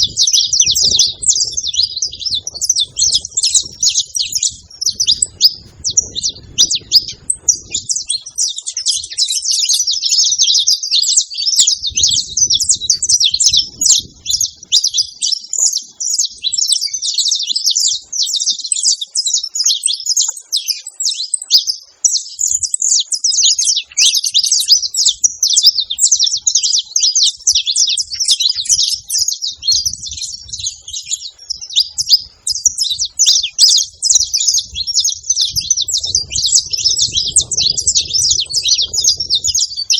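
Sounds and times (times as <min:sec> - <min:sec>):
finches chirping and trilling: 0:00.0 - 0:39.9.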